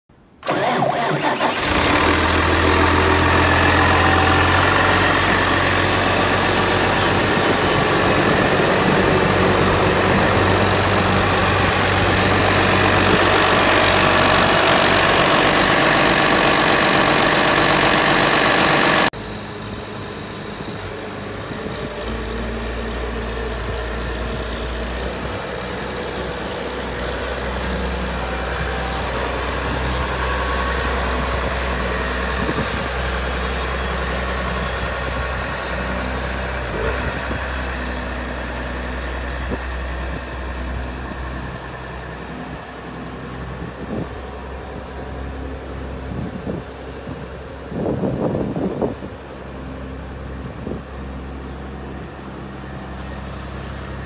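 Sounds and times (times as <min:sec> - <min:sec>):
diesel engine starting and idling: 0:00.2 - 0:54.0.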